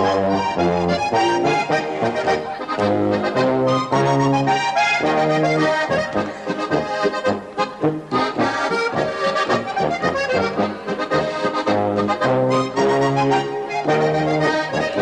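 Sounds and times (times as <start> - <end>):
accordion playing polka: 0.0 - 15.0.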